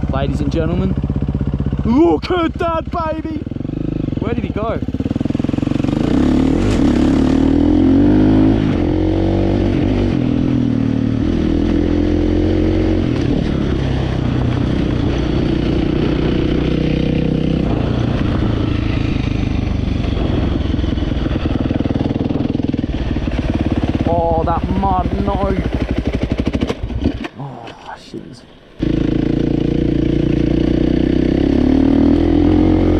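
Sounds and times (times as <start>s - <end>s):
dirt bike engine revving: 0.3s - 27.4s, 28.8s - 32.9s.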